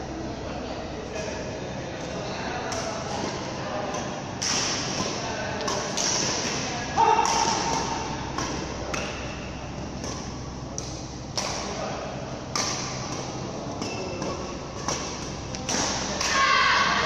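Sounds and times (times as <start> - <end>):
low ventilation hum: 0.0 - 17.0
rackets striking a shuttlecock: 2.0 - 17.0.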